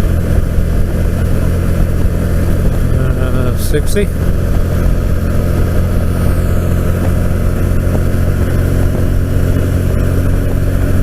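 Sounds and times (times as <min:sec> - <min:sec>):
motorcycle engine drone: 0:00.0 - 0:11.0
wind rush: 0:00.0 - 0:11.0.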